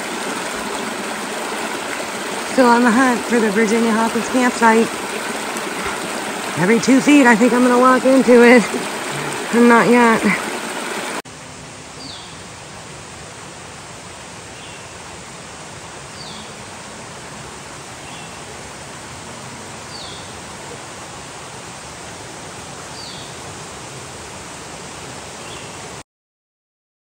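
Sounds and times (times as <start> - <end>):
creek flowing over rocks: 0.0 - 26.0.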